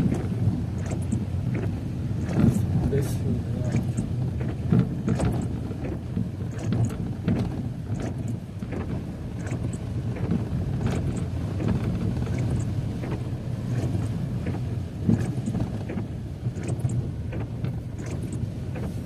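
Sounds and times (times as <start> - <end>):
car road and engine rumble: 0.0 - 19.0
rain and grit ticking on car: 0.0 - 19.0.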